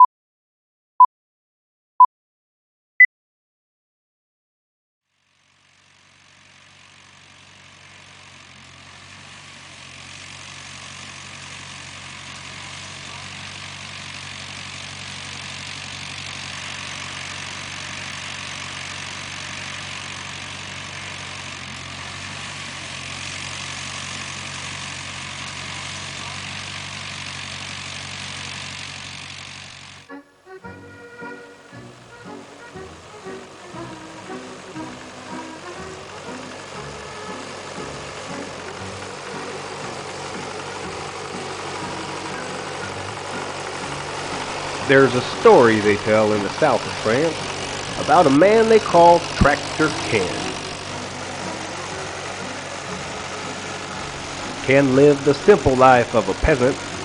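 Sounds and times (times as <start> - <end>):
tractor engine running: 5.1 - 57.0.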